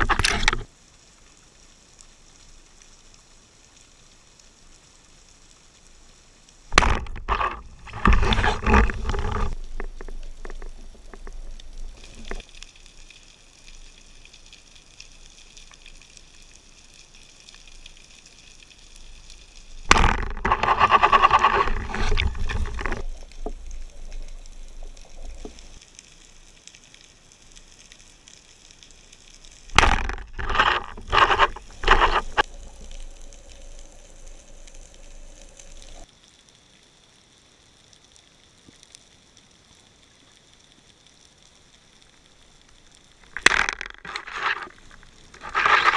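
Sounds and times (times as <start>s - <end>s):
underwater bubbling and rushing water: 0.0s - 36.4s, 39.6s - 45.9s
faint steady hiss: 0.0s - 45.9s.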